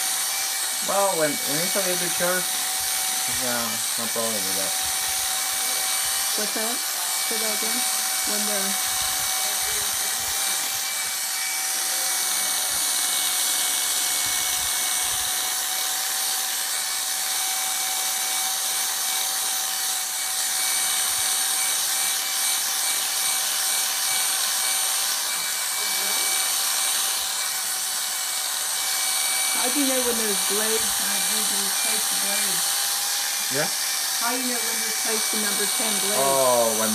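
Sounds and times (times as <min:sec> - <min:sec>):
electric clippers whining: 0:00.0 - 0:36.9.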